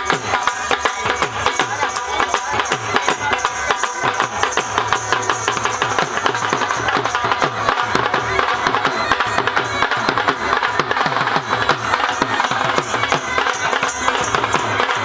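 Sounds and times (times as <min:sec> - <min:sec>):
dhol drum beat: 0:00.0 - 0:15.0.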